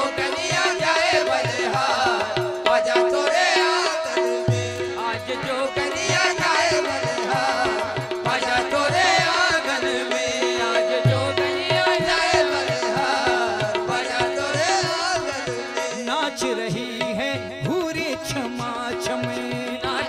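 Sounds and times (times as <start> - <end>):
harmonium melody and drone: 0.0 - 20.0
tabla rhythm: 0.0 - 20.0.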